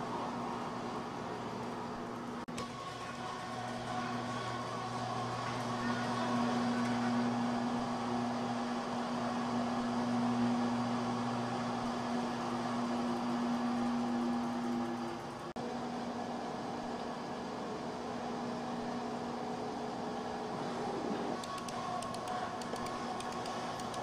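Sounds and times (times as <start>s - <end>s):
electric motors humming: 0.0s - 24.0s.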